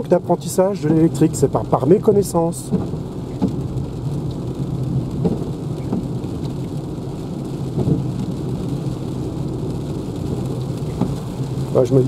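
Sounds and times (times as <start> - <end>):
rain hiss: 0.0 - 12.0
road and tyre rumble: 0.0 - 12.0.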